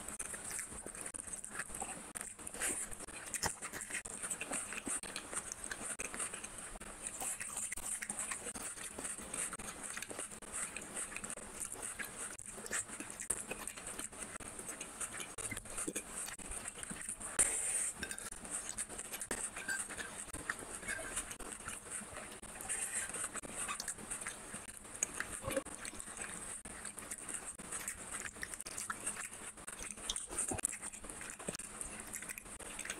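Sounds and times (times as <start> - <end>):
wet chewing and mouth smacking: 0.0 - 32.9.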